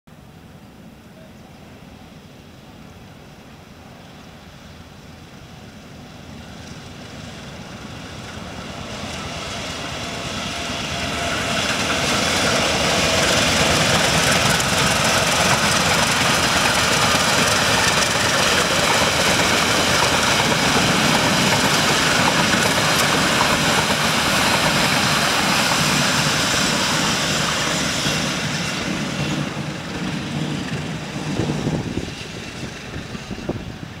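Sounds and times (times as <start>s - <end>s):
passenger train running past: 0.2s - 34.0s.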